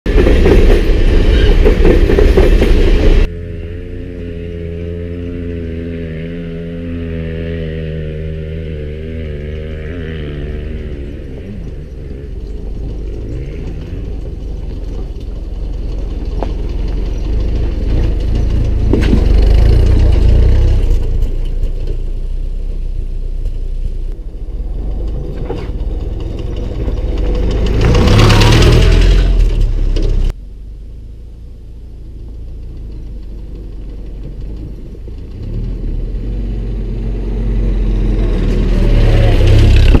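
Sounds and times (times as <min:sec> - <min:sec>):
jeep engine driving on dirt: 0:00.1 - 0:40.0.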